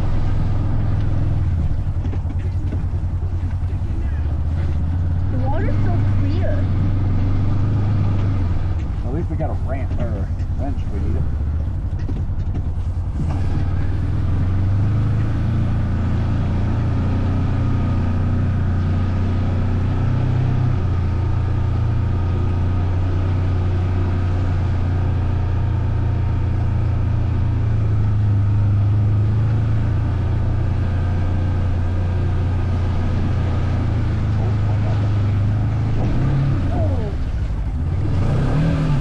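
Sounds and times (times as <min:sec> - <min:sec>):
off-road vehicle engine droning: 0:00.0 - 0:39.0.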